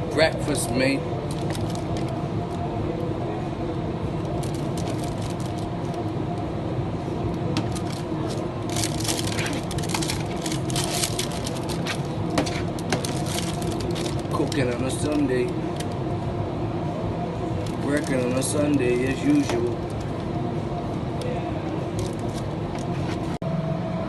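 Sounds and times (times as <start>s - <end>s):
wok burner and extraction rumble: 0.0s - 24.0s.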